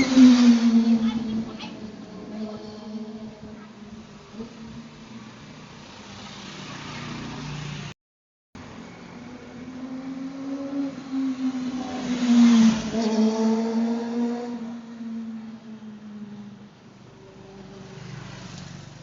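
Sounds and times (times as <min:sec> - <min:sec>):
vehicle engine passing by: 0:00.0 - 0:08.0, 0:08.6 - 0:19.0.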